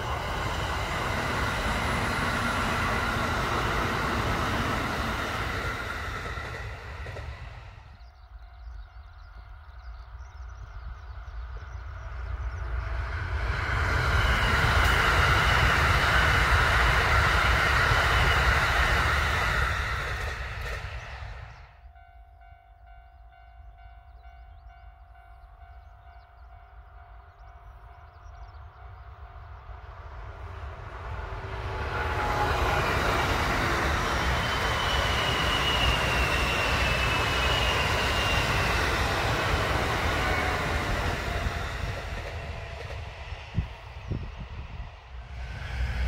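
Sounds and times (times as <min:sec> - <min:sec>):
electric train passing: 0:00.0 - 0:46.0.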